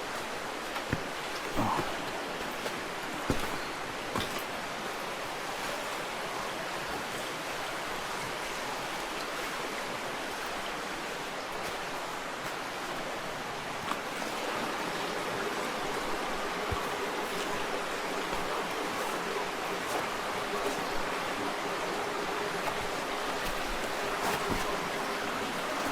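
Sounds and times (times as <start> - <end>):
creek water running over rocks: 0.0 - 25.9.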